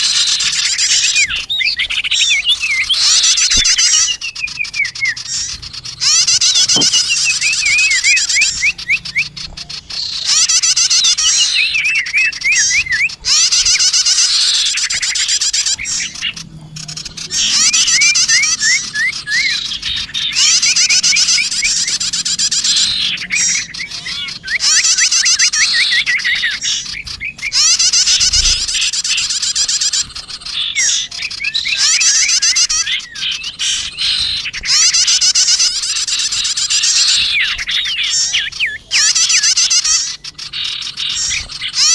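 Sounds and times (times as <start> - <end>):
quiet bird twittering: 0.0 - 41.9
songbirds chirping and trilling: 0.0 - 41.9.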